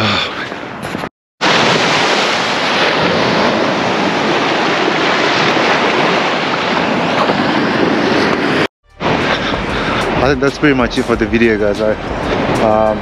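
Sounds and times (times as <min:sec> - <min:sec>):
ocean surf on rocky shore: 0:00.0 - 0:13.0.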